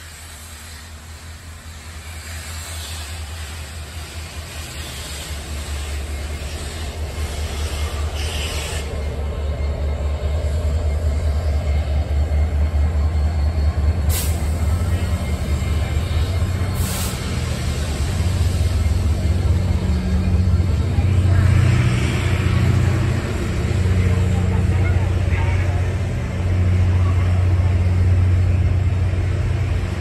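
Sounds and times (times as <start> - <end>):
diesel locomotive engine rumble: 0.0 - 30.0
train rolling past: 0.0 - 30.0.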